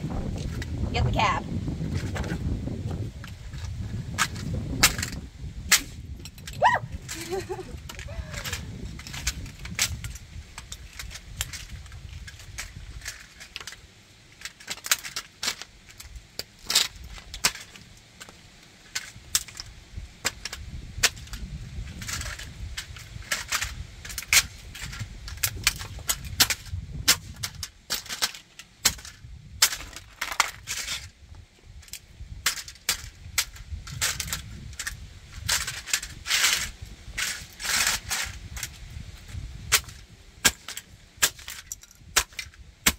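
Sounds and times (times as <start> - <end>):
fragments scraping on concrete: 3.2 - 31.2, 31.8 - 42.9
model truck cracking and snapping: 3.2 - 31.2, 31.8 - 42.9.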